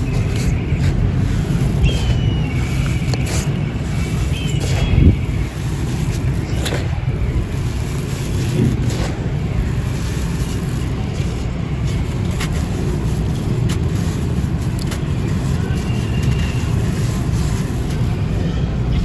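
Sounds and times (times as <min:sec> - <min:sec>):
crisp crunches: 0:00.0 - 0:19.0
dry sand crumbling: 0:00.0 - 0:19.0.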